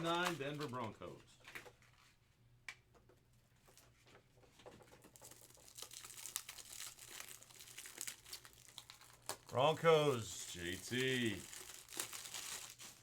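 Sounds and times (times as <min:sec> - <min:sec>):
faint plastic crinkling: 0:00.0 - 0:13.0.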